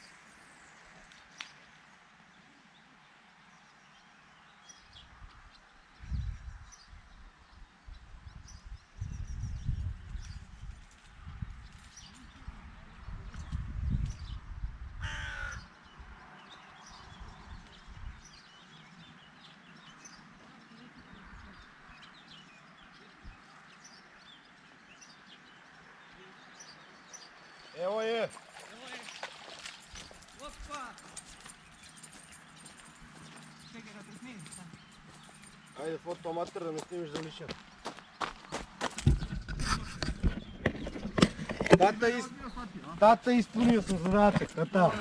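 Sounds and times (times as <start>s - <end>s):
faint birds chirping: 0.0s - 45.0s
steady outdoor hiss: 0.0s - 45.0s.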